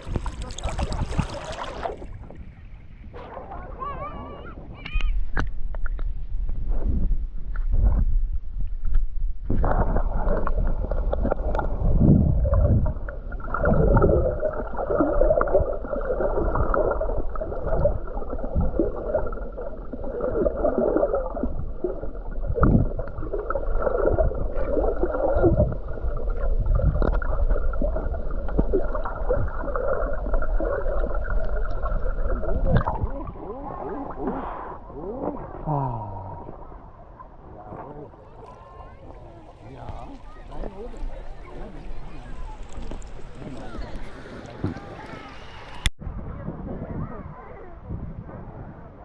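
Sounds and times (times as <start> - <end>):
muffled water sloshing and gurgling: 0.0 - 49.0.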